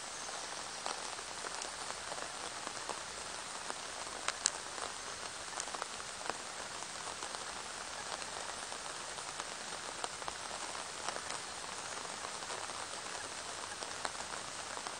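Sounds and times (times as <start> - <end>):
rain on foliage and pond: 0.0 - 14.9
raindrops ticking: 0.4 - 14.9.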